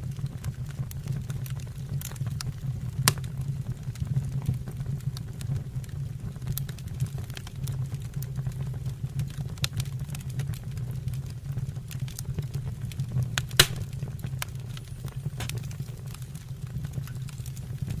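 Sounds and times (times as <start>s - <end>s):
fire crackling and snapping: 0.0s - 18.0s.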